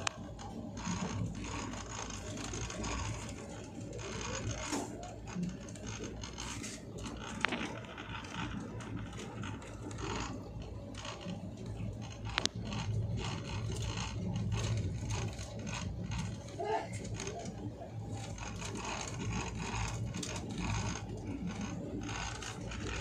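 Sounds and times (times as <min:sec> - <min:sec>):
scratchy rattling: 0:00.0 - 0:23.0.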